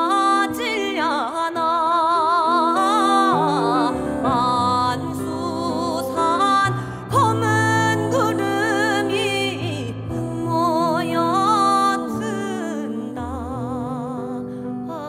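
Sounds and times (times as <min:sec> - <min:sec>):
voices singing with vibrato: 0:00.0 - 0:14.3
piano accompaniment: 0:00.0 - 0:15.0.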